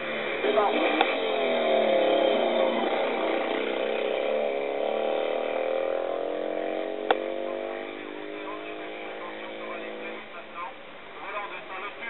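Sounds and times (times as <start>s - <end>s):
racing car engine accelerating: 0.0s - 10.7s.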